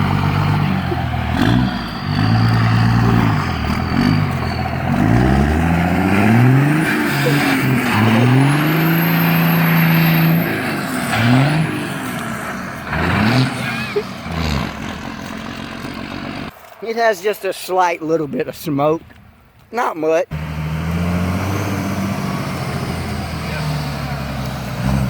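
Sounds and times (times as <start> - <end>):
diesel truck engine accelerating: 0.0 - 16.6, 20.3 - 25.0.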